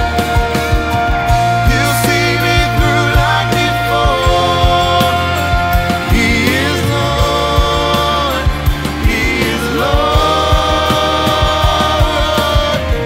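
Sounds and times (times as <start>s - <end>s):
band with bass and drum beat: 0.0s - 13.0s
choir singing long held notes: 0.0s - 13.0s.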